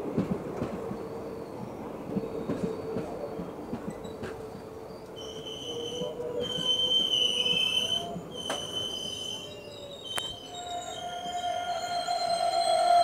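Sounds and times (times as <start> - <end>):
train coaches rolling past: 0.0 - 13.0
train wheels squealing: 0.8 - 13.0.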